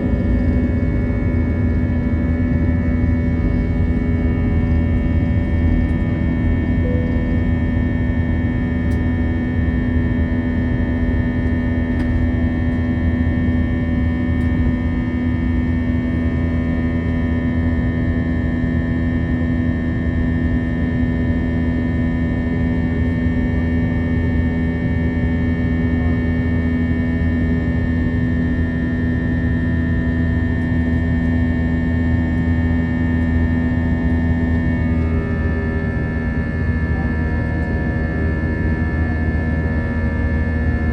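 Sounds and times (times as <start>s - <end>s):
jet engine cabin drone: 0.0s - 40.9s.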